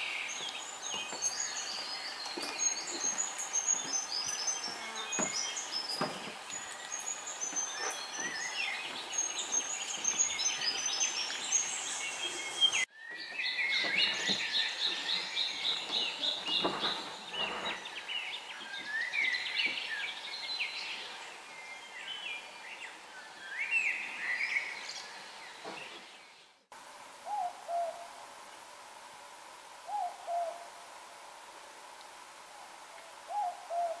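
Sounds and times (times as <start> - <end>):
forest birdsong: 0.0 - 34.0
steady hiss: 0.0 - 34.0.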